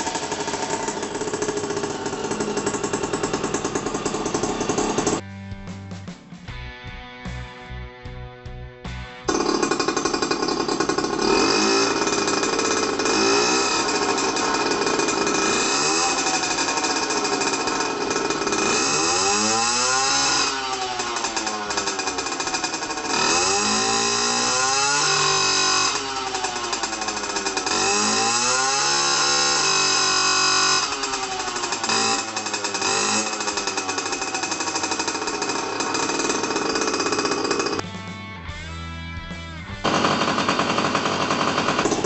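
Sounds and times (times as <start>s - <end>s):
two-stroke engine revving: 0.0s - 5.2s, 9.3s - 37.8s, 39.8s - 42.0s.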